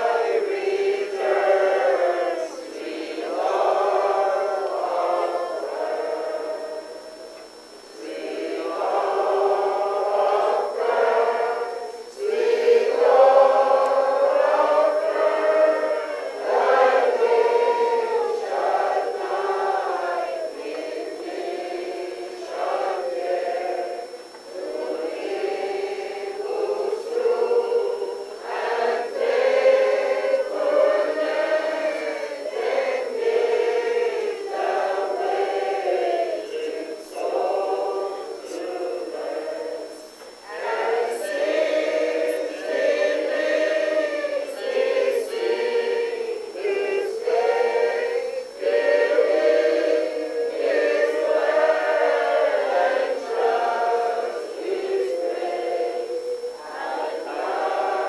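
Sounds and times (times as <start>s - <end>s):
congregation singing: 0.0s - 58.0s.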